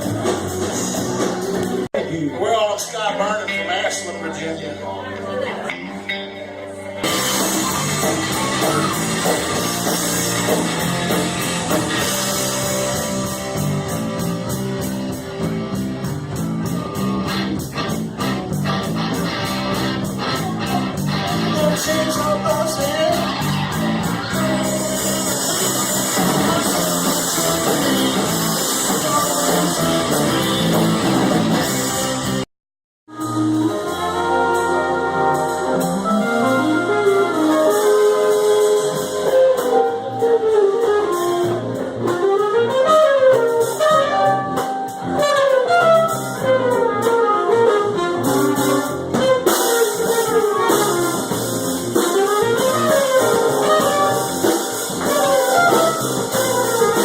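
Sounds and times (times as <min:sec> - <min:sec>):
band playing: 0:00.0 - 0:32.4, 0:33.1 - 0:57.0
drums: 0:00.0 - 0:32.5, 0:33.1 - 0:57.0
guitar: 0:00.0 - 0:32.5, 0:33.1 - 0:57.0
horns: 0:07.0 - 0:32.4, 0:33.1 - 0:57.0.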